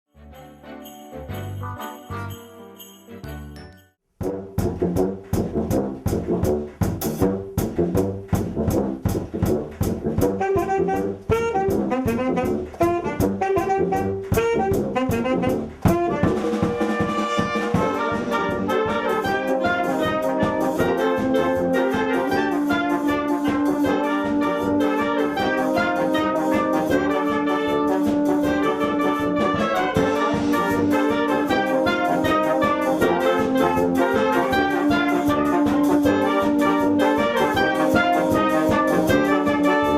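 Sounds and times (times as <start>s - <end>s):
brass band playing: 0.1s - 3.6s, 4.2s - 39.9s
percussion strokes: 0.4s - 39.9s.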